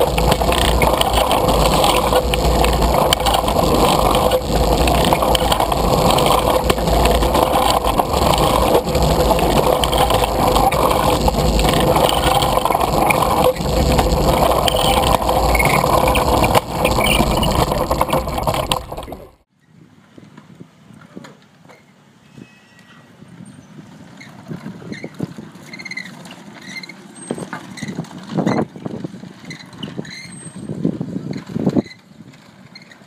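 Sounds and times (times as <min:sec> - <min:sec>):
wheels rumbling and rattling on track: 0:00.0 - 0:22.1, 0:23.2 - 0:33.0.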